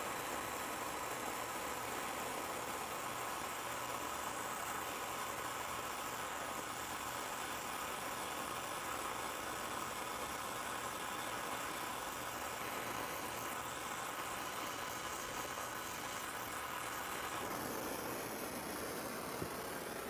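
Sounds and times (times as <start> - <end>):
torch flame hissing: 0.0 - 20.0.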